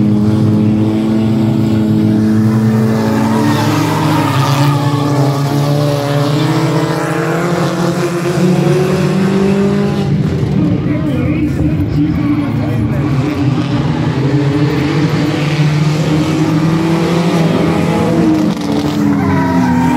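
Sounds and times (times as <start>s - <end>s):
race car engines at full throttle: 0.0s - 19.9s.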